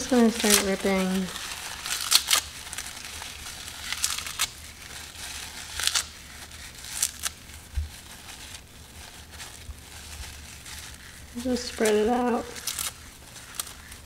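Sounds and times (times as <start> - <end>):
dried seaweed crackling: 0.0 - 14.0.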